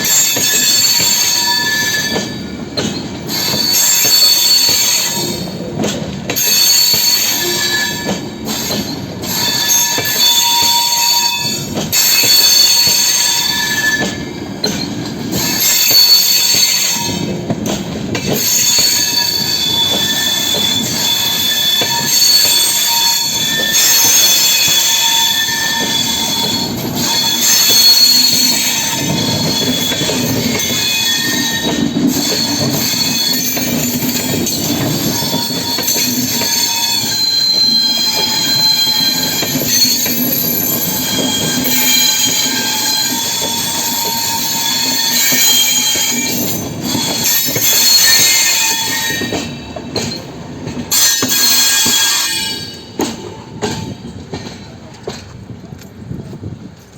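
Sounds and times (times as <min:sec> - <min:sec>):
high-pitched wheel squeals: 0:00.0 - 0:05.7, 0:06.4 - 0:17.3, 0:18.3 - 0:50.2, 0:50.9 - 0:52.9
train rumbling on track: 0:00.0 - 0:56.9.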